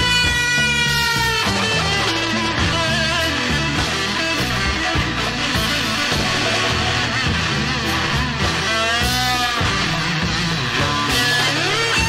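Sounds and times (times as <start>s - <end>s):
bass and drums: 0.0s - 12.0s
electric guitar: 0.0s - 12.0s.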